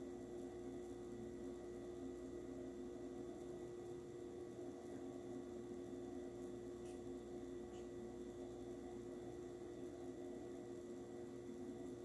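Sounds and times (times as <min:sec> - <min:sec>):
oven humming: 0:00.0 - 0:12.0.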